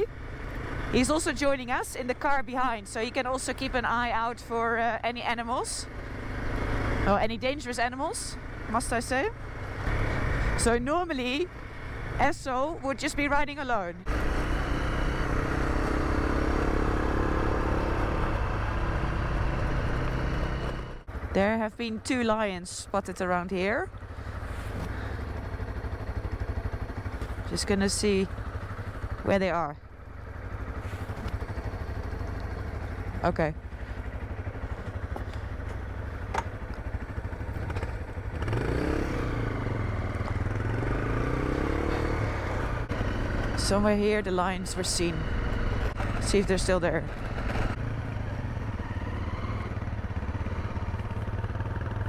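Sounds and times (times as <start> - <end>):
gravel road noise: 0.0 - 52.0
vehicle engine running: 0.0 - 52.0.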